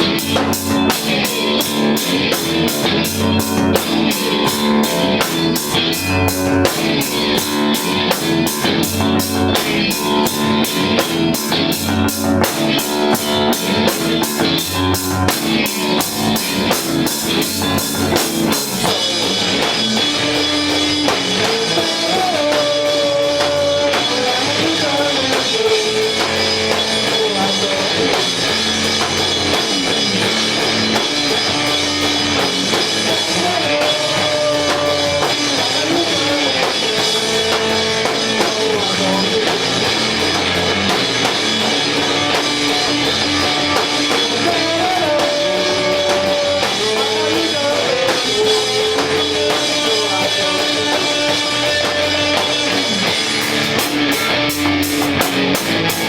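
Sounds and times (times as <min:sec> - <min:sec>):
distorted electric guitar: 0:00.0 - 0:56.0
drum kit: 0:00.0 - 0:56.0.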